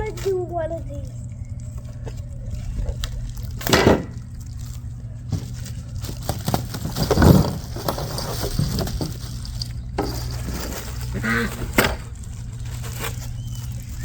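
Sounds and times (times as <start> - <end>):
handling noise of packaging: 0.0 - 14.0.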